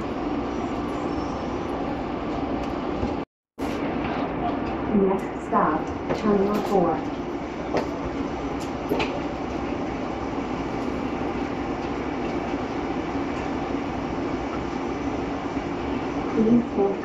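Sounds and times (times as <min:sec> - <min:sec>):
train humming at station: 0:00.0 - 0:17.0.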